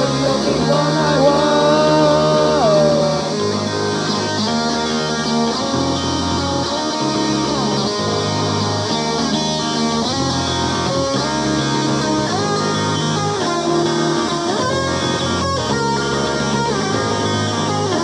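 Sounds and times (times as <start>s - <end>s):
bass guitar line: 0.0s - 18.0s
electric guitar chords: 0.0s - 18.0s.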